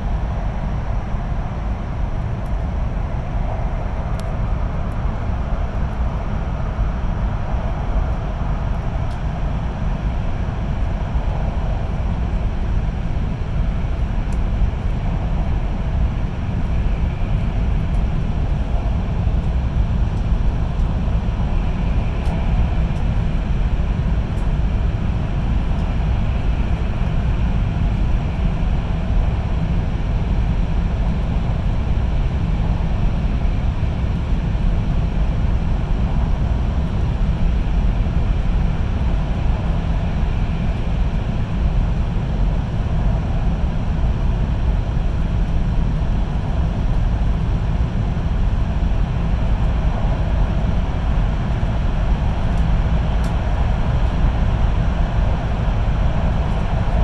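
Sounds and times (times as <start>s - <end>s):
train rumbling in tunnel: 0.0s - 57.0s.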